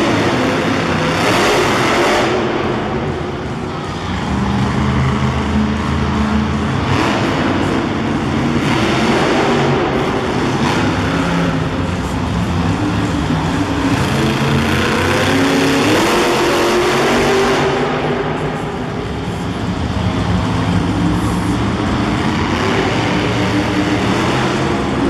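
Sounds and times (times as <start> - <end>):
truck engines revving hard: 0.0 - 25.0.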